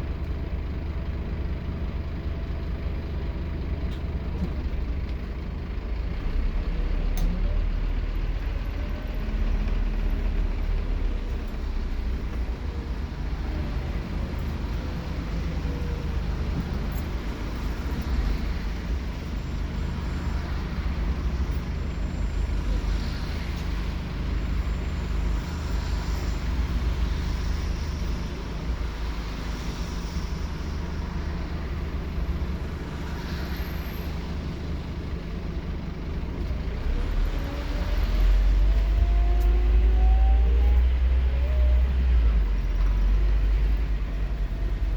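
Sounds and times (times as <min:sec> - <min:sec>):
bus engine running: 0:00.0 - 0:44.9
road rumble: 0:00.0 - 0:44.9.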